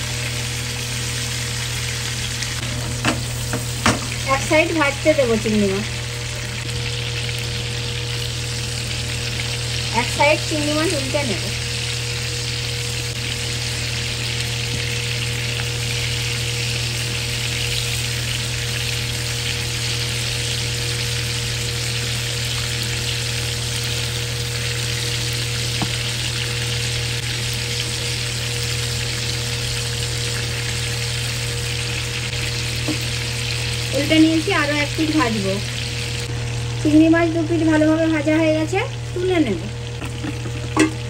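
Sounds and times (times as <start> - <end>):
prawns sizzling in hot oil: 0.0 - 41.0.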